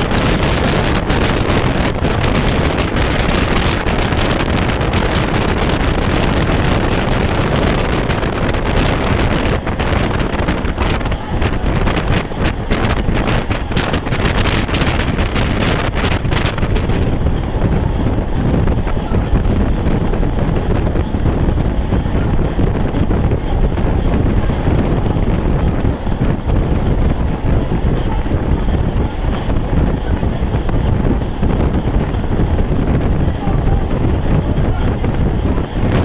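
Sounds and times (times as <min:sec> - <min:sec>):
train rumbling: 0:00.0 - 0:36.0
wind buffeting microphone: 0:00.0 - 0:36.0.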